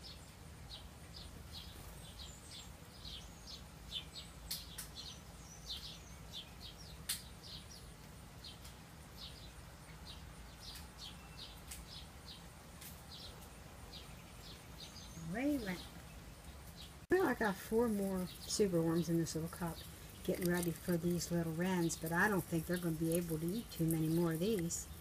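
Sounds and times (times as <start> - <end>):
small songbird chirping: 0.0 - 25.0.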